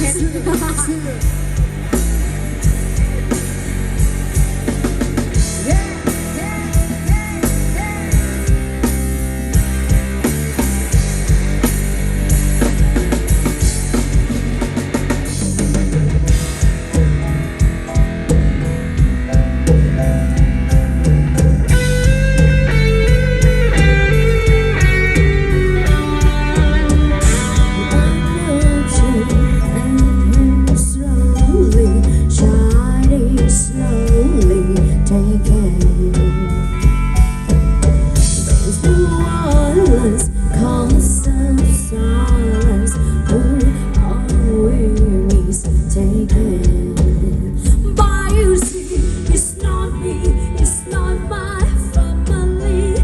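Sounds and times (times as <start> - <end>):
drum kit beat: 0.0 - 53.0
electric guitar and bass: 0.0 - 53.0.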